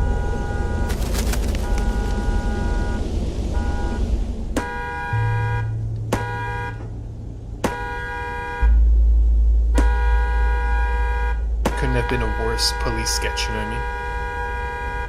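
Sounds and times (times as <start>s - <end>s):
deep bass drone: 0.0s - 15.0s.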